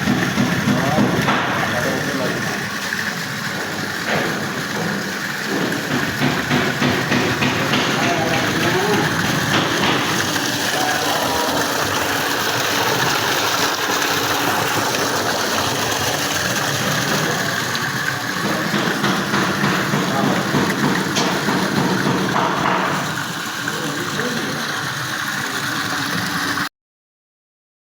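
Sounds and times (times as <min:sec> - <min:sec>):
waterfall splashing: 0:00.0 - 0:26.7.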